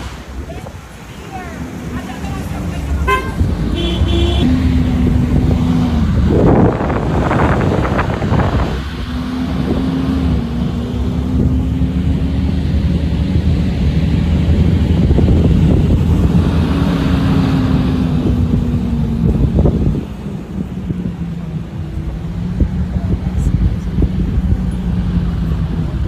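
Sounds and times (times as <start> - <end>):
car engine and road noise: 0.0 - 26.0
wind on microphone: 0.0 - 26.0.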